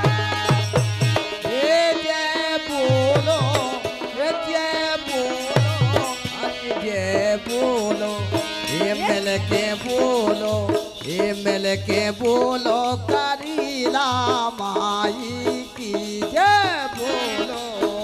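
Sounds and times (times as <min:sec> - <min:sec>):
small hand cymbals jingling: 0:00.0 - 0:18.0
steady drum beat: 0:00.0 - 0:18.0.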